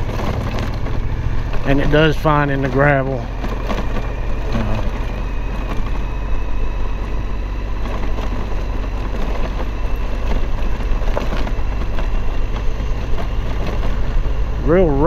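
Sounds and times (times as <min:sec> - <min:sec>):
motorcycle engine running: 0:00.0 - 0:15.0
tyres rolling over gravel: 0:00.0 - 0:15.0.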